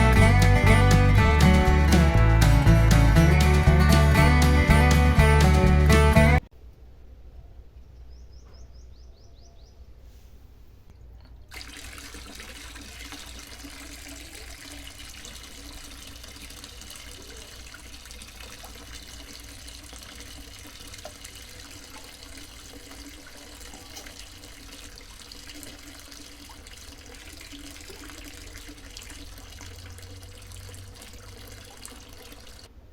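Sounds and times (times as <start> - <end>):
water running: 0.0 - 6.4, 11.5 - 32.7.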